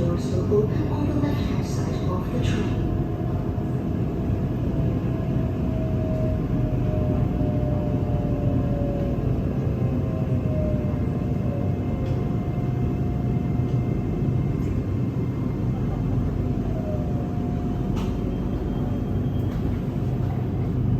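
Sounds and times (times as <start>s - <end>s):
train carriage rumble: 0.0s - 20.9s.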